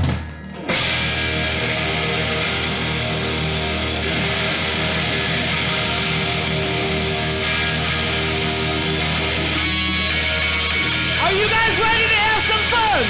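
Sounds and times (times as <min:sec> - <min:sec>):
bass guitar: 0:00.0 - 0:13.0
distorted electric guitars: 0:00.0 - 0:13.0
drums: 0:00.0 - 0:13.0.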